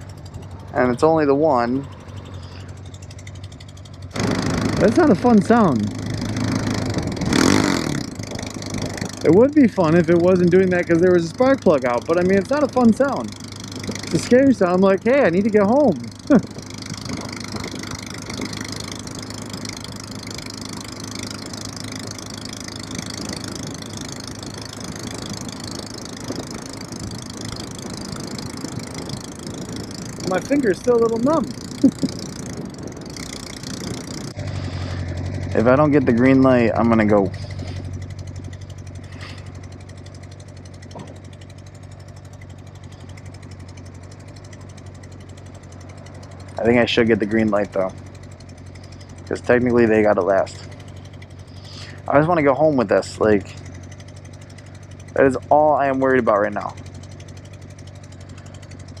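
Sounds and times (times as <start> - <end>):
motorcycle engine idling roughly: 0.0 - 59.0.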